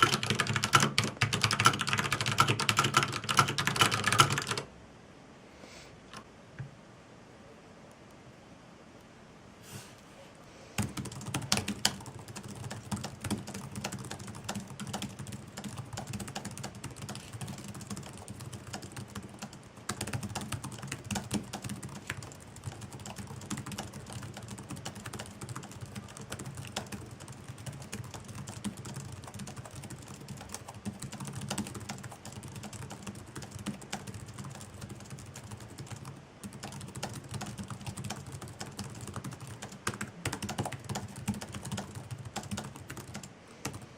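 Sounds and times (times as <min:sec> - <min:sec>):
fast typing on computer keyboard: 0:00.0 - 0:04.7, 0:10.8 - 0:43.9.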